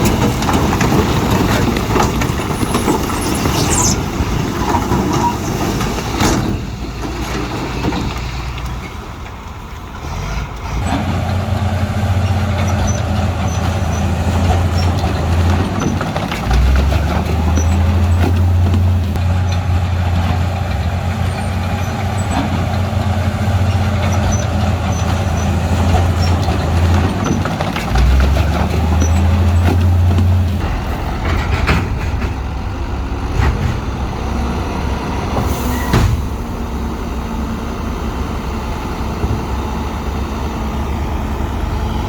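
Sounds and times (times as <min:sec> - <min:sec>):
diesel machinery engine running: 0:00.0 - 0:42.0.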